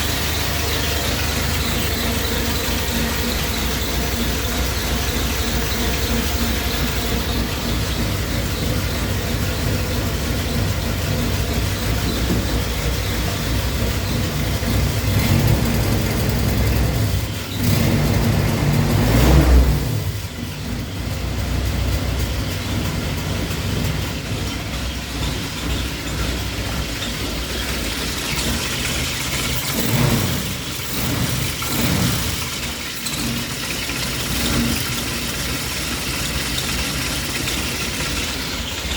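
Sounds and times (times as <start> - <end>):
jeep engine idling and revving: 0.0 - 38.9.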